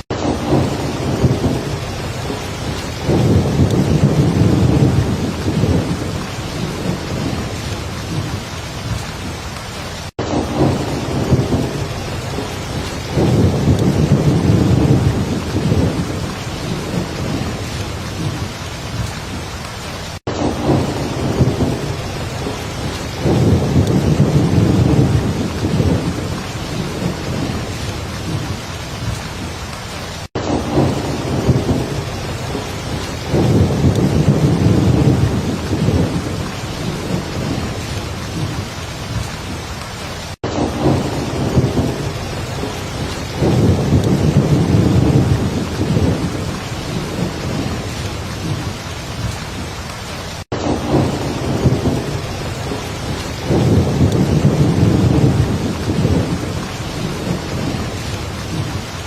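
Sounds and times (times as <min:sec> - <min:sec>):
heavy rain falling: 0:00.0 - 0:59.0
thunder rumbling: 0:00.0 - 0:59.0.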